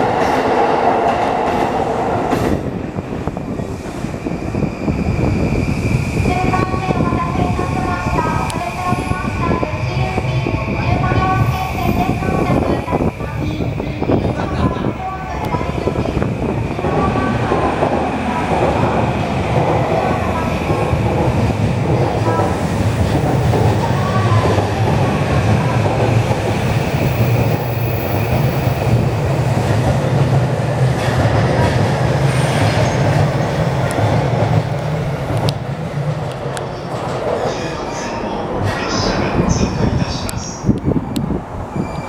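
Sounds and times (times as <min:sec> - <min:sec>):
electric train passing: 0:00.0 - 0:42.0.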